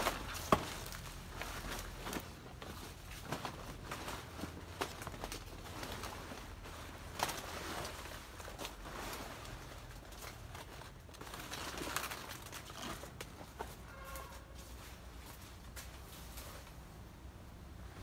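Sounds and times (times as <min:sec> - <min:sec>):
rustling among plants: 0:00.0 - 0:18.0.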